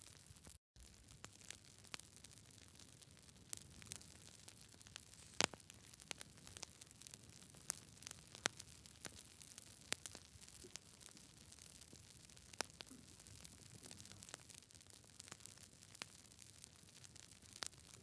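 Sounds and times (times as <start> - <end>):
soft steady fire hiss: 0.0 - 18.0
campfire crackling and popping: 0.2 - 18.0.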